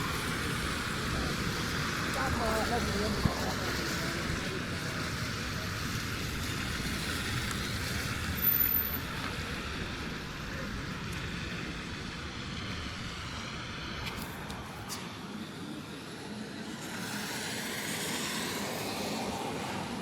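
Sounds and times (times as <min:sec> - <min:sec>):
road traffic rushing: 0:00.0 - 0:20.0.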